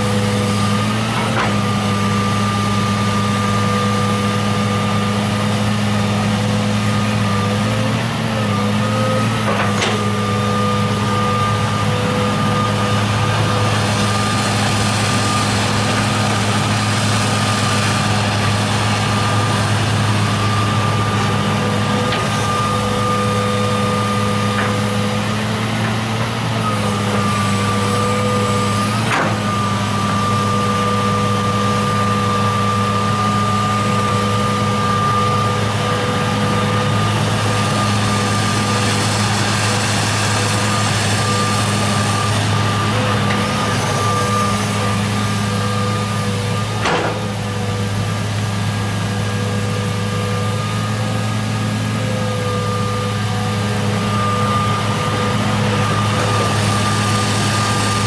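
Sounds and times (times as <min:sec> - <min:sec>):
excavator diesel engine running: 0:00.0 - 0:58.0
steady whine: 0:00.0 - 0:58.0.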